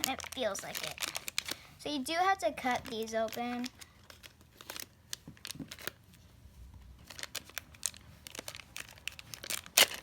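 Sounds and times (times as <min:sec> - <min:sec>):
plastic packet crinkling: 0:00.0 - 0:06.1, 0:06.9 - 0:10.0.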